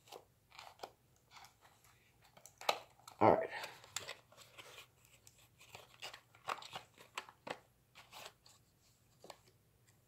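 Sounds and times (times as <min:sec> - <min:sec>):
packaging crackling and crinkling: 0:00.0 - 0:08.5.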